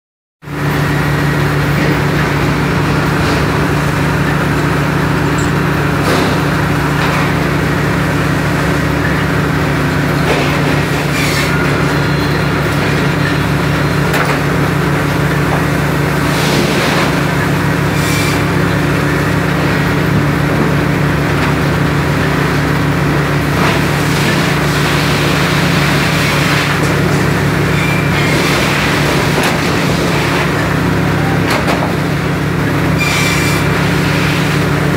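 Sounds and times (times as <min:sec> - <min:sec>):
heavy machinery humming: 0:00.4 - 0:34.9
machinery knocks and clanks: 0:01.4 - 0:24.6, 0:25.8 - 0:33.7.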